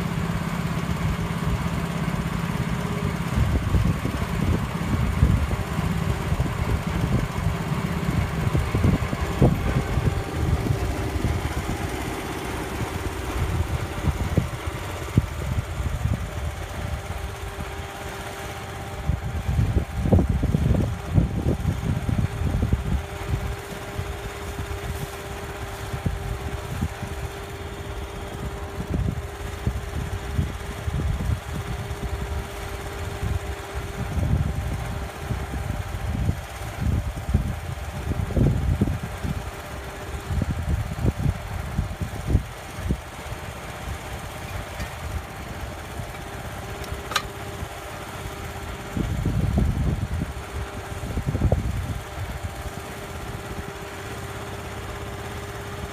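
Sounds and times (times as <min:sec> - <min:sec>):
hydraulic power pack engine idling: 0:00.0 - 0:55.9.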